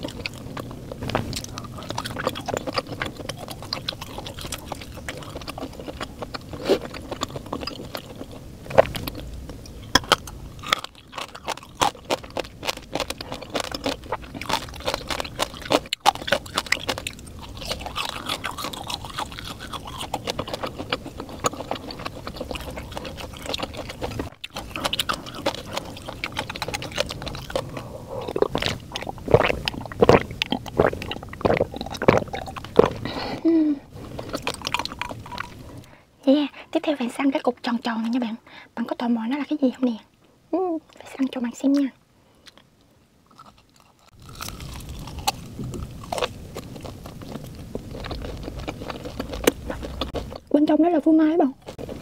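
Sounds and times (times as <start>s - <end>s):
person chewing food: 0.0s - 36.0s, 42.4s - 50.5s, 51.6s - 52.0s.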